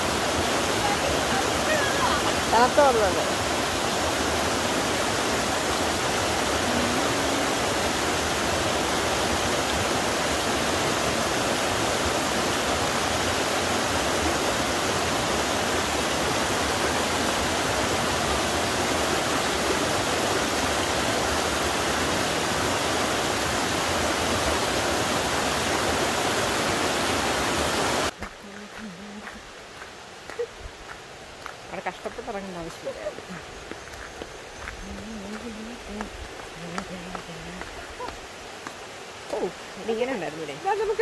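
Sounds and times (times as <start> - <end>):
stream running over rocks: 0.0 - 41.0.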